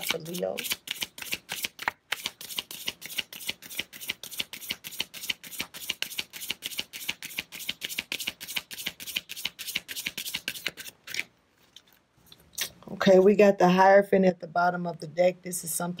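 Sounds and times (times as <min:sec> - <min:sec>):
cards shuffling and riffling: 0:00.0 - 0:12.8.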